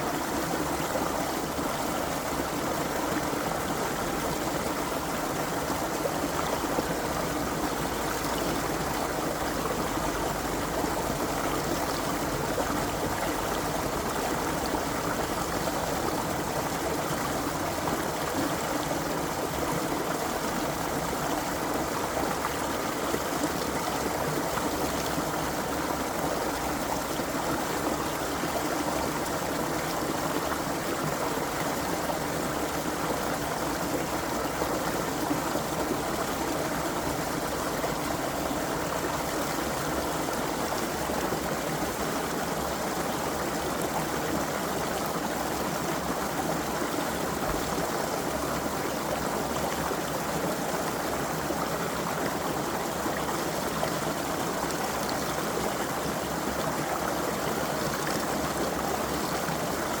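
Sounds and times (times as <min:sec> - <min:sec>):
creek water running over stones: 0:00.0 - 1:00.0.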